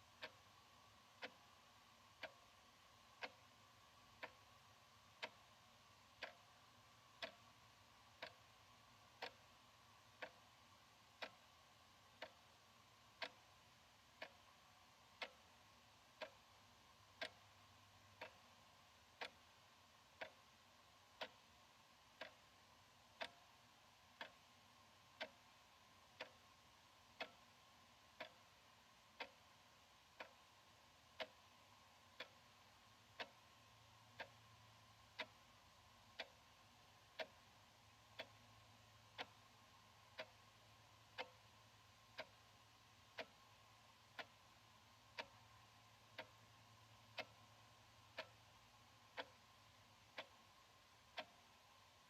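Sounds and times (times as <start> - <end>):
faint steady hum: 0.0 - 52.0
wall clock ticking: 0.0 - 52.0.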